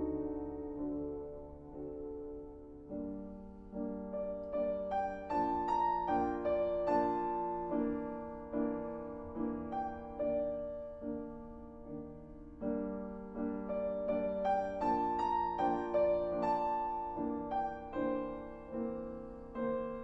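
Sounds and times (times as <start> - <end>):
grand piano playing chords: 0.0 - 20.0.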